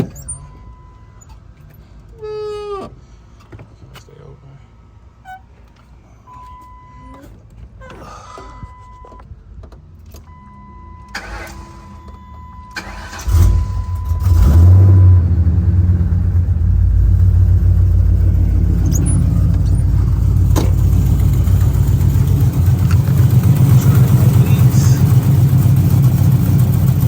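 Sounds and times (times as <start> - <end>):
car engine starting and idling: 2.8 - 27.0.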